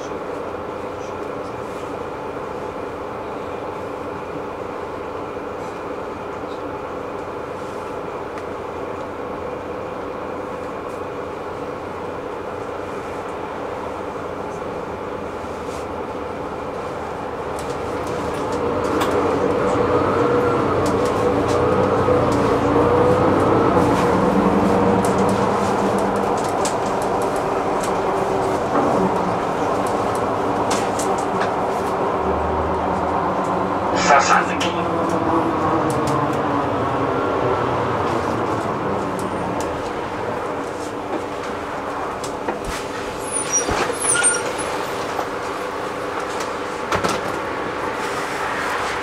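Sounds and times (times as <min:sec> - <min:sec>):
bus drivetrain hum with rattles: 0:00.0 - 0:49.0.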